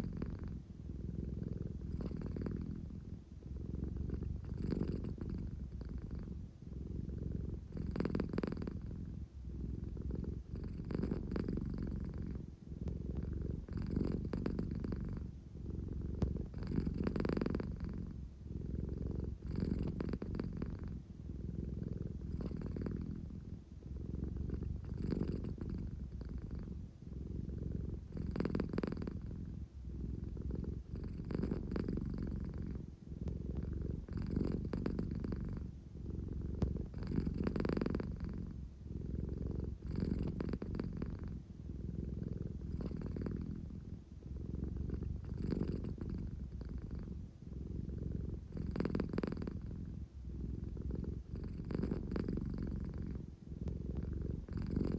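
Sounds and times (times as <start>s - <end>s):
cat purring: 0.0s - 54.9s.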